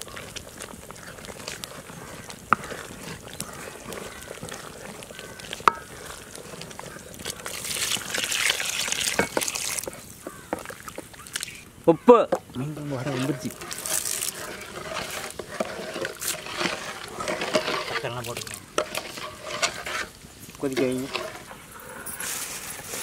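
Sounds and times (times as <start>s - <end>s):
ladle stirring: 0.0s - 11.6s, 12.4s - 23.0s
curry simmering and bubbling in a pot: 0.0s - 21.9s.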